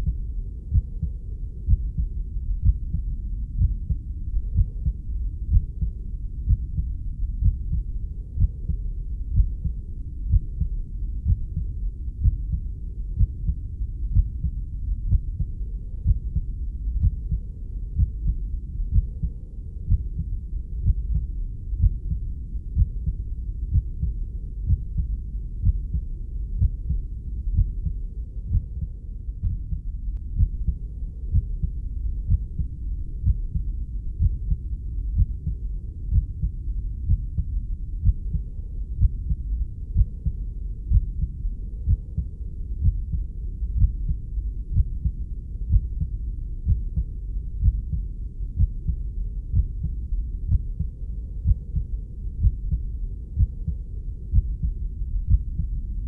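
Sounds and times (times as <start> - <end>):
constant low rumble: 0.0 - 56.0
heartbeat thumps: 0.0 - 56.0.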